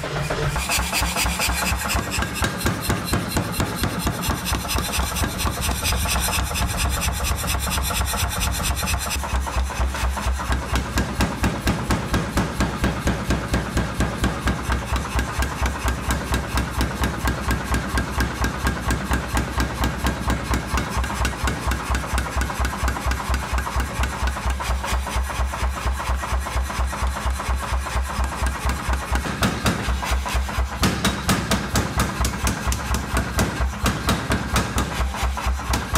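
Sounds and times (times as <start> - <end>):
power hammer pounding steel: 0.0 - 35.9.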